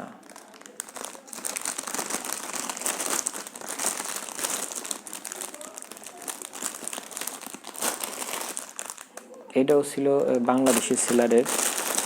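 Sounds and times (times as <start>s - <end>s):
packaging crinkling and rustling: 0.2s - 12.0s.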